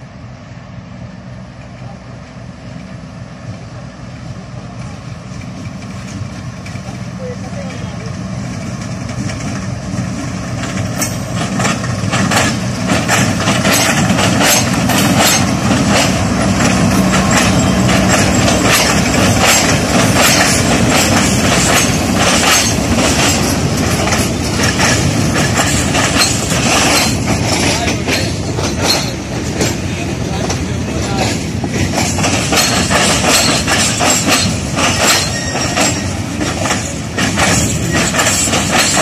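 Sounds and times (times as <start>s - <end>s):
locomotive engine drone: 0.0s - 39.0s
train wheels clattering over crossing: 1.5s - 39.0s.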